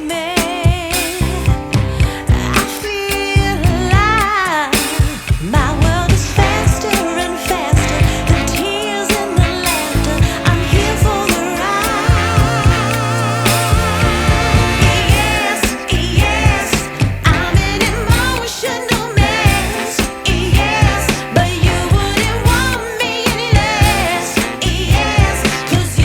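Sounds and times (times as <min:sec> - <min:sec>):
song with vibrato singing: 0:00.0 - 0:26.0.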